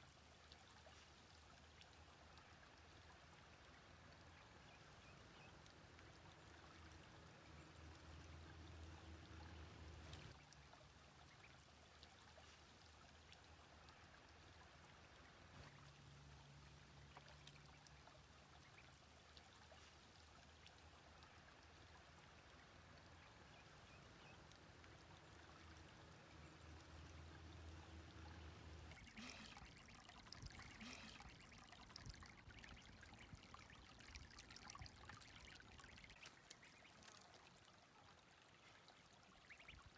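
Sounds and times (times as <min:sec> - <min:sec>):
stream trickling over rocks: 0:00.0 - 0:39.9
ducklings splashing in water: 0:00.4 - 0:37.4, 0:39.4 - 0:39.9.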